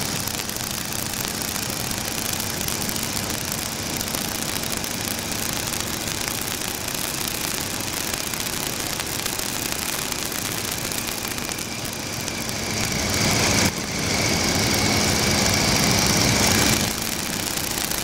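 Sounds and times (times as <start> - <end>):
biplane engine in flight: 0.0 - 18.0
rushing wind: 2.9 - 18.0.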